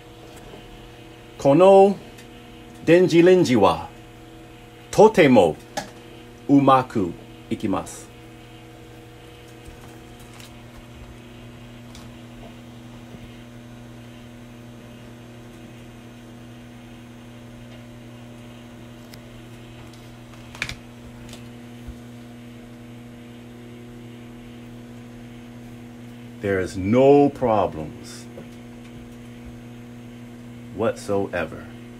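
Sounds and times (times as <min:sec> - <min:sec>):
microwave oven hum: 0:00.0 - 0:31.9.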